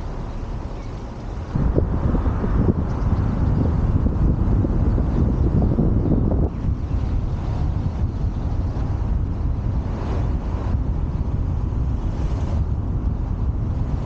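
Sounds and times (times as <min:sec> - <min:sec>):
city street traffic rumble: 0:00.0 - 0:14.0
wind buffeting microphone: 0:00.0 - 0:14.0.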